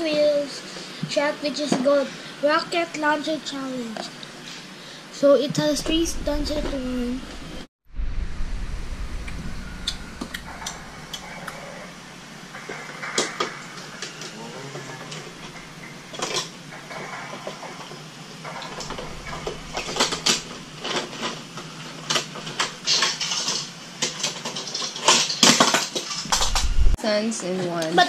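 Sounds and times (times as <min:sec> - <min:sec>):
faint steady hum: 0:00.2 - 0:24.1.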